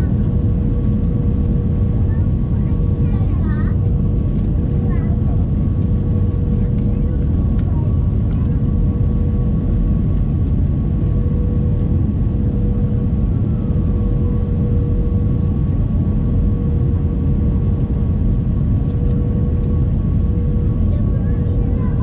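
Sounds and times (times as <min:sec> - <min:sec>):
aircraft cabin engine rumble: 0:00.0 - 0:22.0
constant hum: 0:00.0 - 0:22.0.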